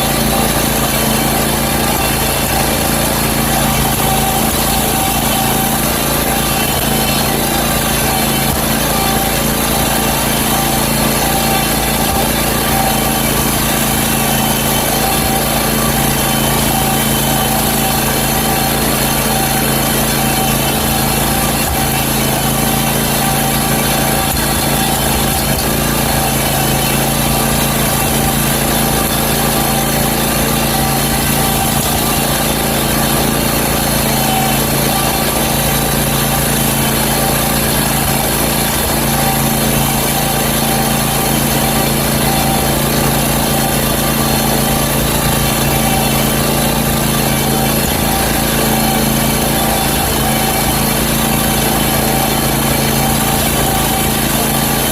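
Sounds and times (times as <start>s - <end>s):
mower engine running: 0.0s - 54.9s.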